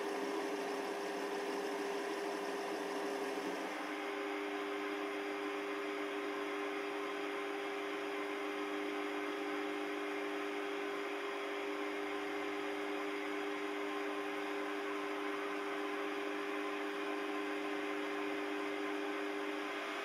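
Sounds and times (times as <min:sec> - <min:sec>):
lathe running with whine: 0:00.0 - 0:20.0.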